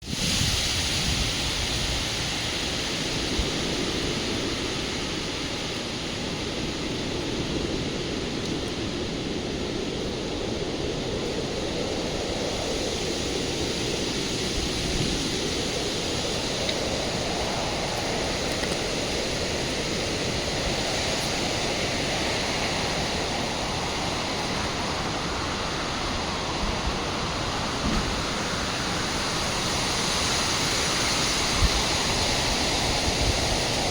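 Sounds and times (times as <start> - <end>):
gusty wind blowing: 0.0 - 33.9.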